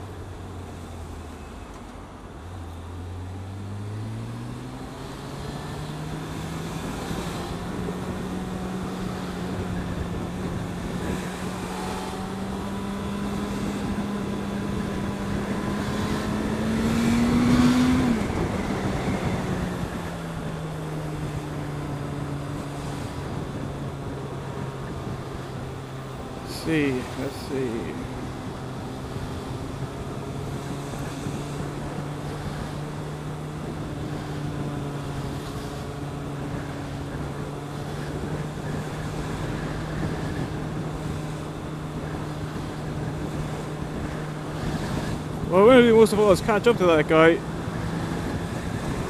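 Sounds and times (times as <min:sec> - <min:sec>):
wind and road noise: 0:00.0 - 0:49.0
motorcycle engine accelerating: 0:03.3 - 0:26.5, 0:27.8 - 0:45.5.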